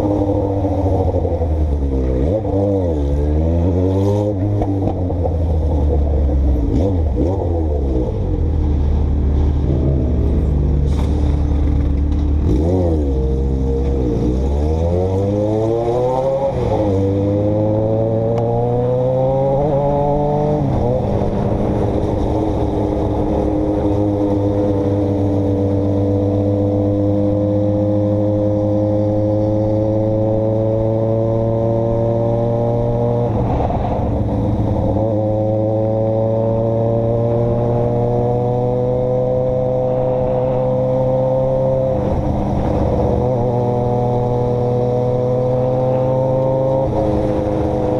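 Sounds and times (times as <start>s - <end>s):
vehicle engine revving: 0.0s - 47.9s.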